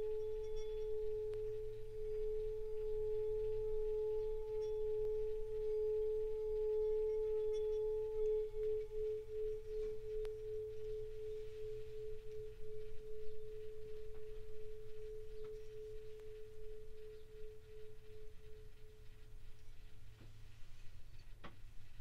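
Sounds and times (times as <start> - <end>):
singing bowl ringing: 0.0 - 20.0.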